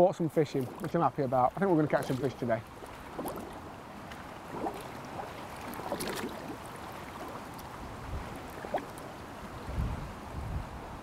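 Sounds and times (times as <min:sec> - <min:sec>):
small water splashes: 0:00.0 - 0:09.7
lake water lapping: 0:00.0 - 0:09.8
wind rumbling on microphone: 0:00.6 - 0:11.0.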